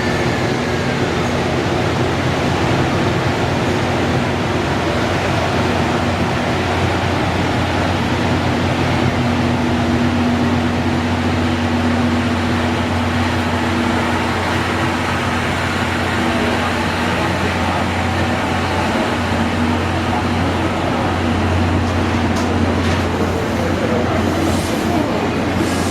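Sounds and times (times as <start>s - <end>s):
train equipment humming: 0.0s - 25.9s.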